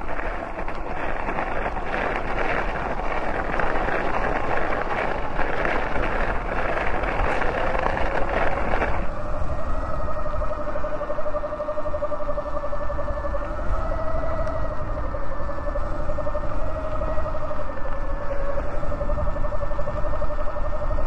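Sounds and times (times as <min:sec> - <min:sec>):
electric motor whine: 0:00.0 - 0:21.0
wind rushing over microphone: 0:00.0 - 0:21.0.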